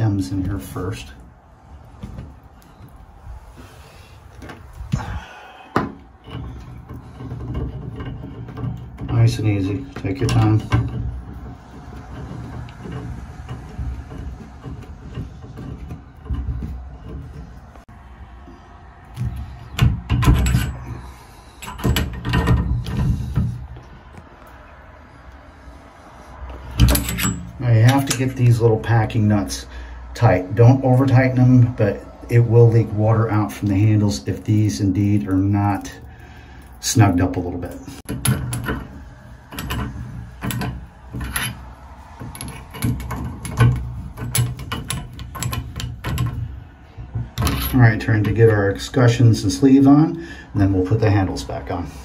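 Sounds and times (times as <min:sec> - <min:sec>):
wrench scraping and clicking on metal: 0:02.5 - 0:52.0.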